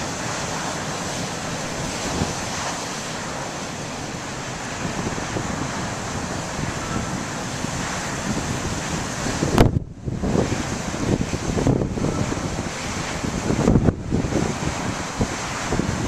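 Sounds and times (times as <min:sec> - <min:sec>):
waves breaking: 0:00.0 - 0:16.0
wind buffeting microphone: 0:00.0 - 0:16.0.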